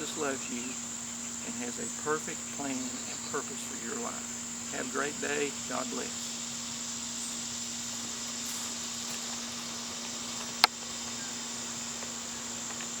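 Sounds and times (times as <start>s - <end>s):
crickets chirring: 0.0s - 13.0s
low steady hum: 0.0s - 13.0s.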